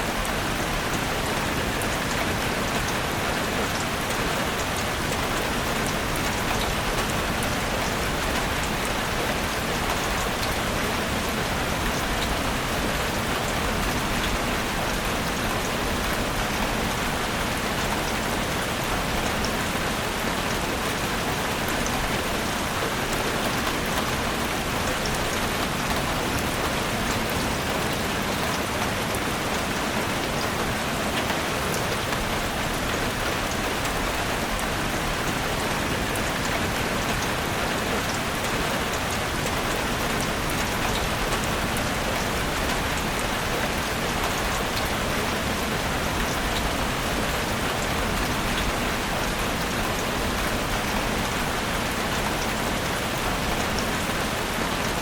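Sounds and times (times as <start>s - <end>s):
rain falling on forest: 0.0s - 55.0s.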